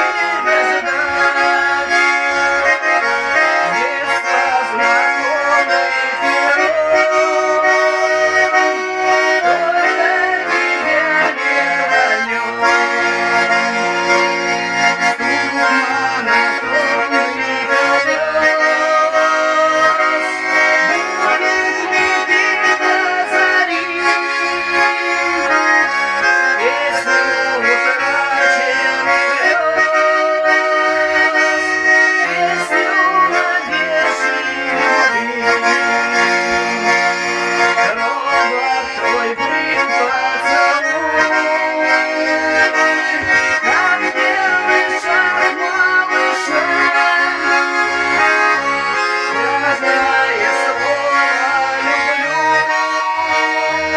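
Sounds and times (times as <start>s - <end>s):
button accordion playing: 0.0s - 53.9s.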